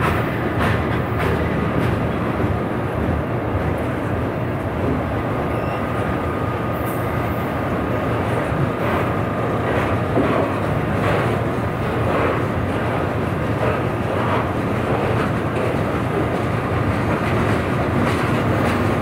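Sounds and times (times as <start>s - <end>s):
train rumbling by: 0.0s - 19.0s.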